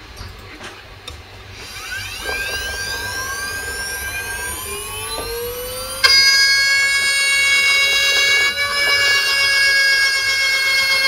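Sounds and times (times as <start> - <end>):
milling machine spindle whining: 1.0 - 11.0
end mill cutting metal: 1.4 - 11.0.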